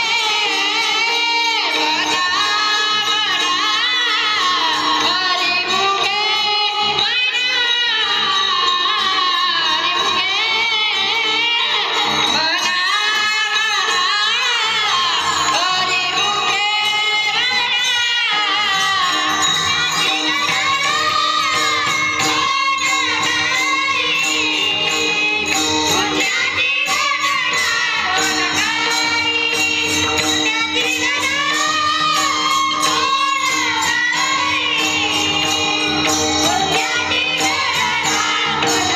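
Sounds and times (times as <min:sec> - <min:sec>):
jingling hand percussion: 0:00.0 - 0:38.9
person singing devotional song: 0:00.0 - 0:38.9.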